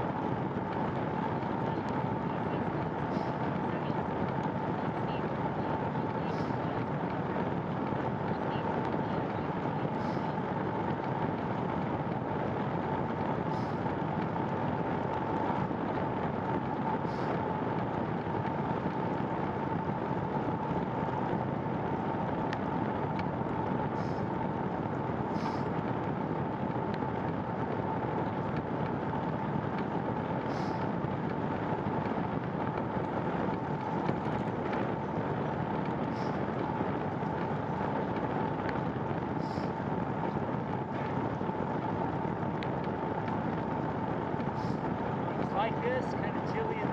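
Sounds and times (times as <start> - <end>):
faint steady whine: 0.0 - 46.9
wind noise: 0.0 - 46.9.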